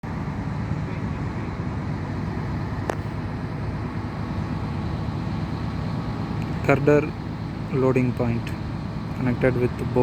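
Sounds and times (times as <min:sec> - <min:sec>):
heavy machinery engine rumbling: 0:00.0 - 0:10.0.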